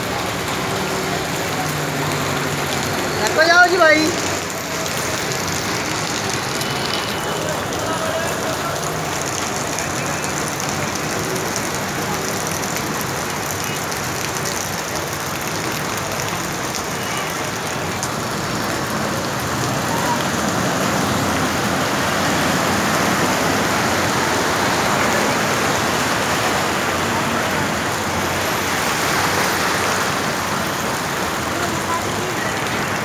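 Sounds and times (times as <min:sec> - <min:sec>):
heavy rain pouring on a street: 0:00.0 - 0:33.0.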